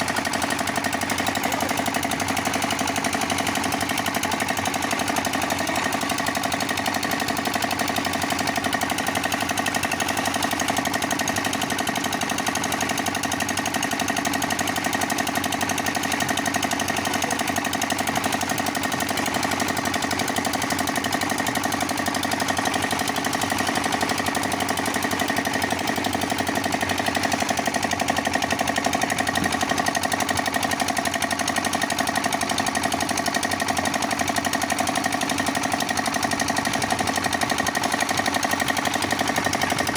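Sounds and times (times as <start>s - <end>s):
concrete mixer running: 0.0s - 39.9s.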